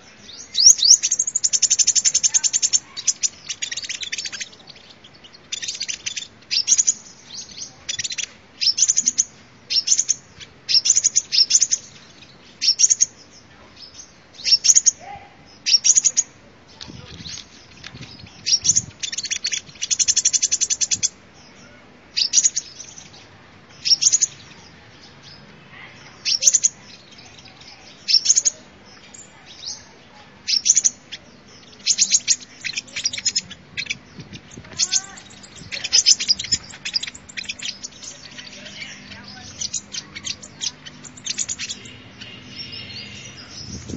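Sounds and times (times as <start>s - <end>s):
sunbird chirps and trills: 0.0s - 43.9s.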